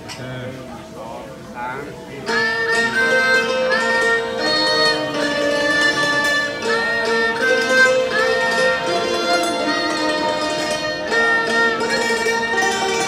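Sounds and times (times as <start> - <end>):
bowed fiddle melody: 0.5 - 13.0
hammered zither struck with mallets: 2.3 - 13.0.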